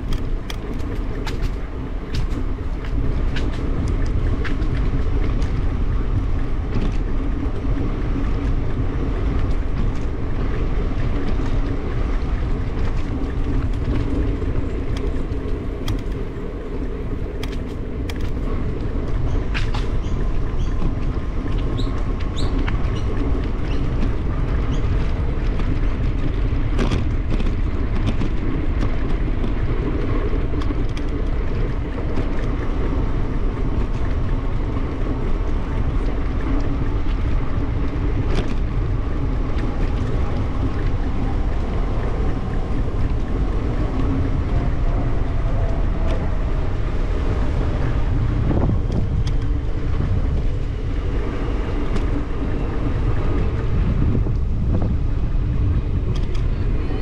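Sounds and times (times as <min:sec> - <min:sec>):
tyres humming on asphalt: 0:00.0 - 0:57.0
wind rushing over microphone: 0:00.0 - 0:57.0.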